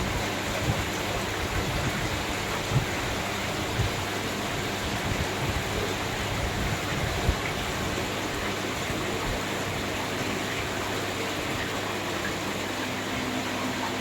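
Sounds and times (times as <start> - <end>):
machine hum: 0.0 - 14.0
water rushing in whirlpool bathtub: 0.0 - 14.0.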